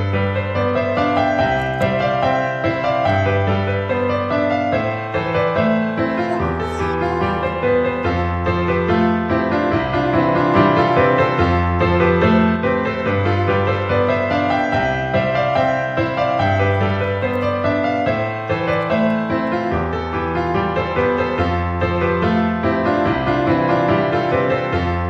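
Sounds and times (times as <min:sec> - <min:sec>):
piano background music: 0:00.0 - 0:25.0.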